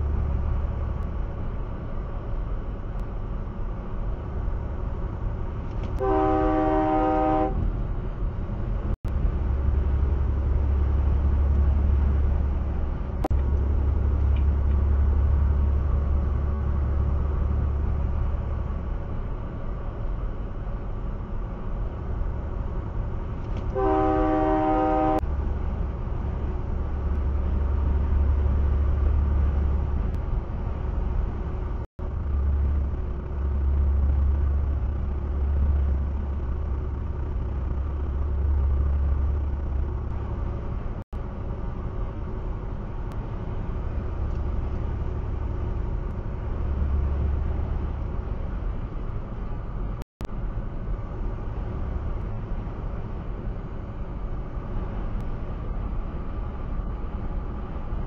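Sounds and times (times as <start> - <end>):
vehicle road and engine rumble: 0.0 - 58.0.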